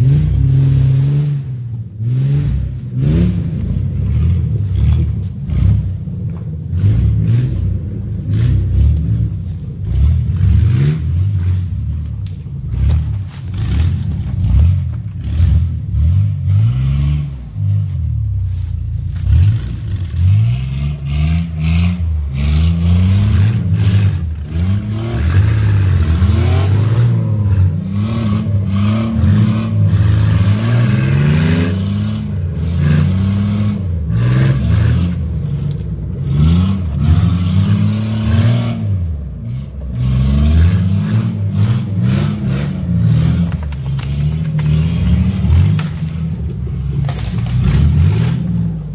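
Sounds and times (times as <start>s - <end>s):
pickup truck engine revving: 0.0s - 48.9s.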